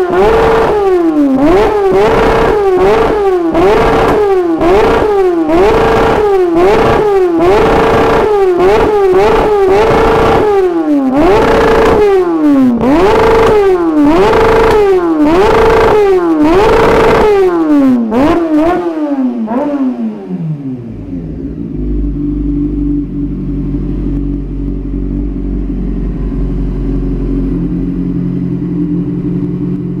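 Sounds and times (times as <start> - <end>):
motorcycle engine idling: 0.0 - 18.8, 19.4 - 30.0
motorcycle engine revving: 0.0 - 30.0.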